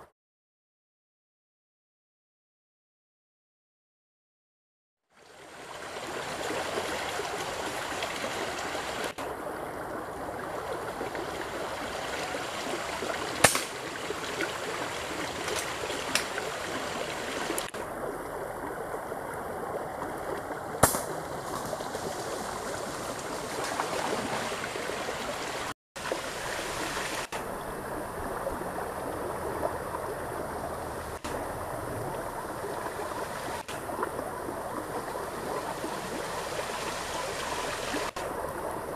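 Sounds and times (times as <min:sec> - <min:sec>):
river flowing over stones: 0:05.2 - 0:38.9.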